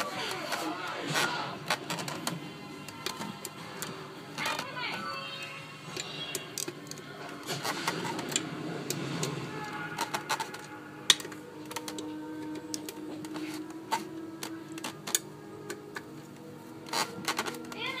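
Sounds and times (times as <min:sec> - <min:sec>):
faint television soundtrack: 0:00.0 - 0:18.0.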